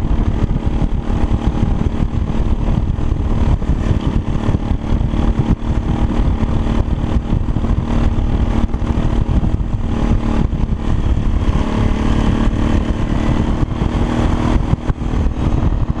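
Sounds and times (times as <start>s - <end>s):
engine humming with low rumble: 0.0s - 16.0s.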